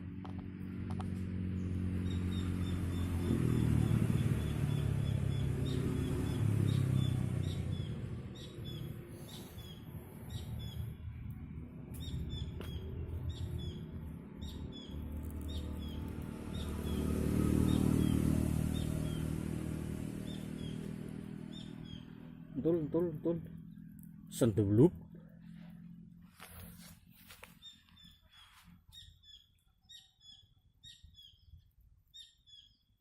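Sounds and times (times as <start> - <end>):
low motor drone: 0.0 - 27.1
small bird chirping: 1.6 - 25.8, 26.6 - 33.0.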